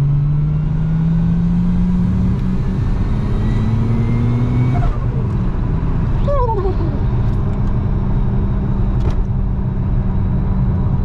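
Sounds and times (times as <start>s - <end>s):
car engine accelerating: 0.0s - 11.0s
low road rumble: 0.0s - 11.0s.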